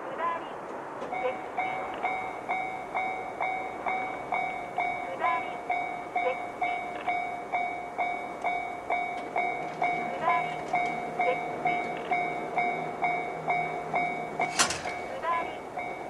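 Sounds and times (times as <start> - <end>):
level crossing bell ringing: 1.1 - 16.0.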